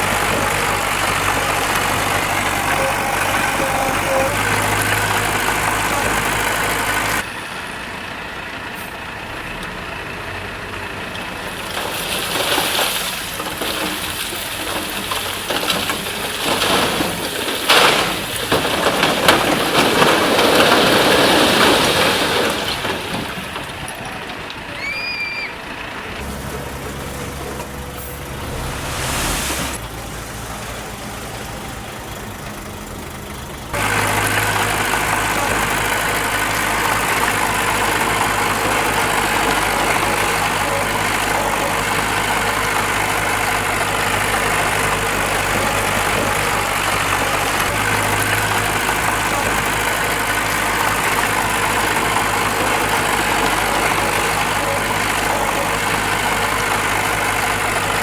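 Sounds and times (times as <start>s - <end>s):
heavy machinery diesel engine running: 0.0s - 24.9s, 25.5s - 58.0s.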